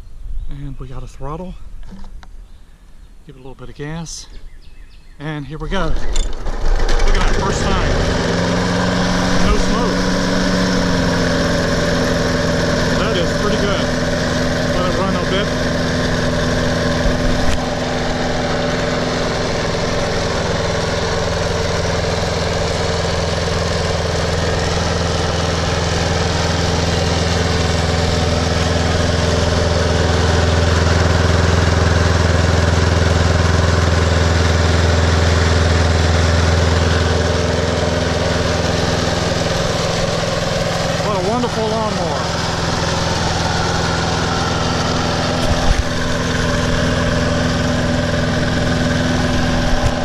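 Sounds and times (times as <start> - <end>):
lawn mower engine running: 5.4 - 50.0.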